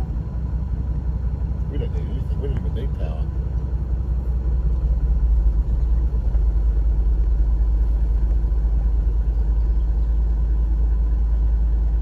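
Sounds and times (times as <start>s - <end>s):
car rumbling on dirt track: 0.0s - 12.0s.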